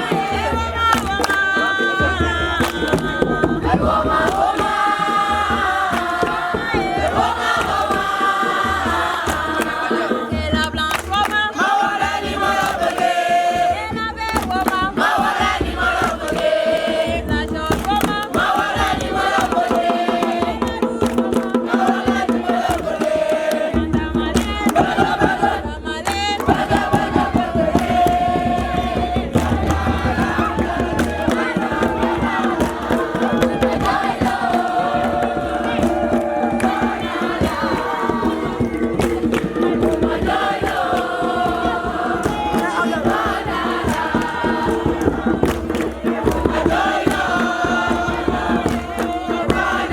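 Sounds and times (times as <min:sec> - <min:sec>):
fast steady percussion: 0:00.0 - 0:49.9
voices singing a chant: 0:00.0 - 0:49.9.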